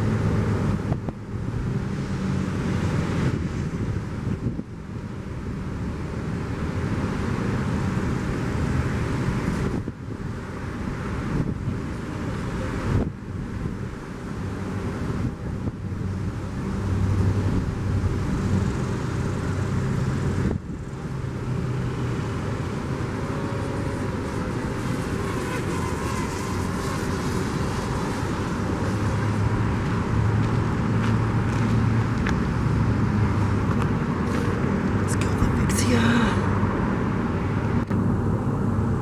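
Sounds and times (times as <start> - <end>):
car engines running: 0.0 - 39.0
vehicles passing: 0.0 - 39.0.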